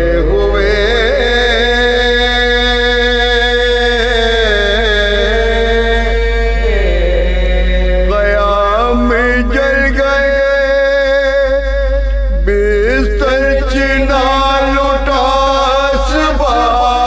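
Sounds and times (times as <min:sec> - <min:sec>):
man chanting a lament: 0:00.0 - 0:17.0
steady low hum: 0:00.0 - 0:17.0.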